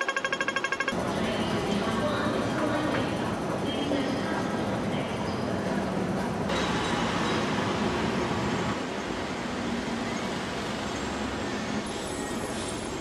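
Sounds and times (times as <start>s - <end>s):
subway train rumble and hiss: 0.9s - 13.0s.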